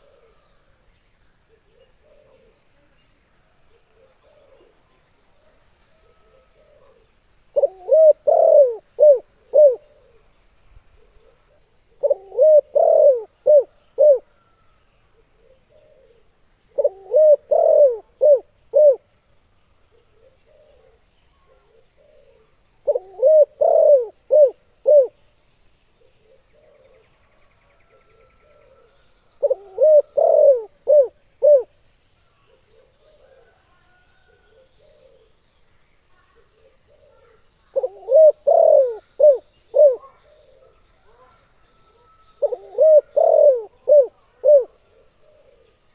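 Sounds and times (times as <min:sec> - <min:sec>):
dove cooing: 0:00.0 - 0:00.6, 0:01.4 - 0:02.8, 0:03.7 - 0:10.3, 0:11.0 - 0:19.1, 0:19.9 - 0:25.2, 0:26.0 - 0:31.8, 0:32.4 - 0:35.4, 0:36.3 - 0:45.9.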